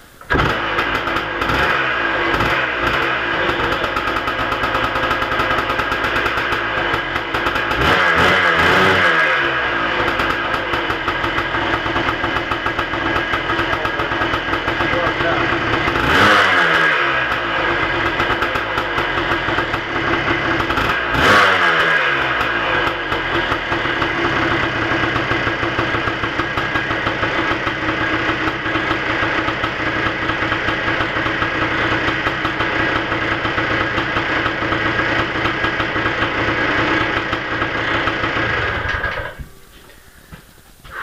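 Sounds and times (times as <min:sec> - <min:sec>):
two-stroke engine revving and idling: 0:00.3 - 0:41.0.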